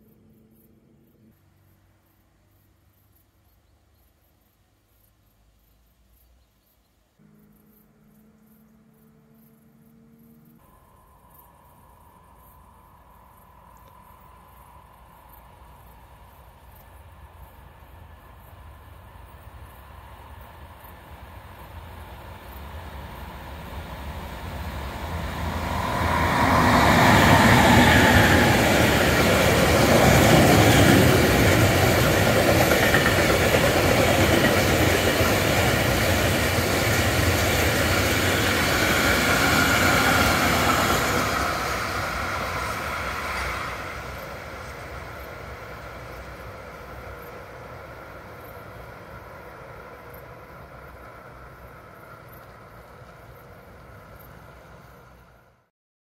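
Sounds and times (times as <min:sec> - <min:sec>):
freight train passing: 0:07.2 - 0:55.7.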